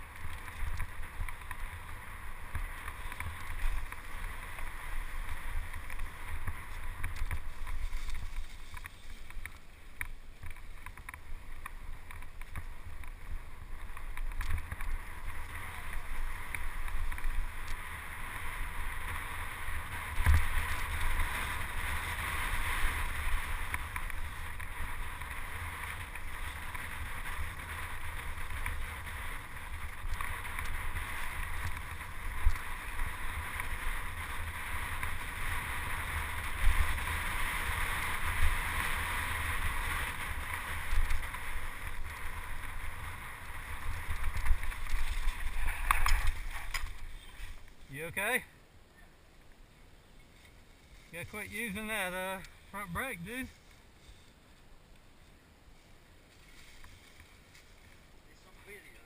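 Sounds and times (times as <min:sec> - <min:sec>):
bike tyre and frame noise: 0:00.0 - 0:59.0.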